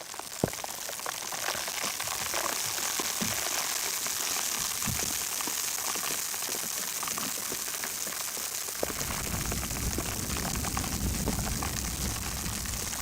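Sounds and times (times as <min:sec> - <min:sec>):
oil crackles and pops: 0:00.0 - 0:13.0.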